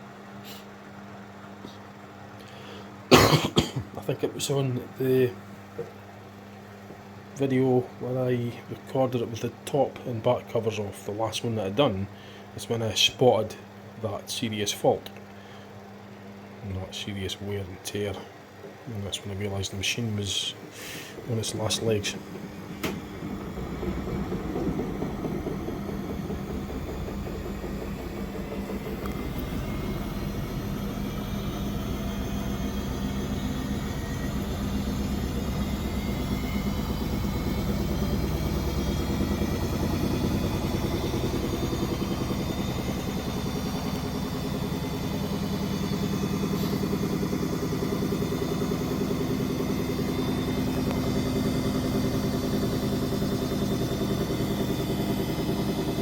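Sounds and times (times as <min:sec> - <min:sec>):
washing machine motor hum and whine: 0:00.0 - 0:56.0.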